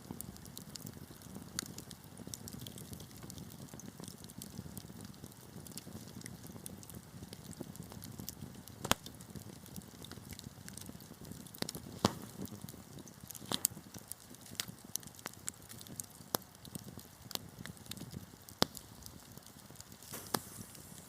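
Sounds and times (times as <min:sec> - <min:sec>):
fire rushing: 0:00.1 - 0:21.0
fire snapping: 0:00.1 - 0:21.0
sharp pops of fire: 0:00.1 - 0:21.0.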